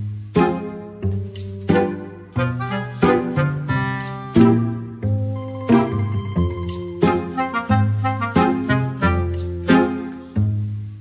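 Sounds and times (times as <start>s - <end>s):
instrumental music notes: 0.0s - 11.0s.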